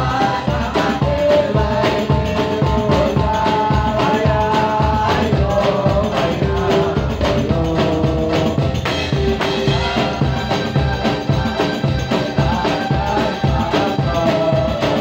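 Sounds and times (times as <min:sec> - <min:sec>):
drums beating driving rhythm: 0:00.0 - 0:15.0
held melody line: 0:00.0 - 0:15.0.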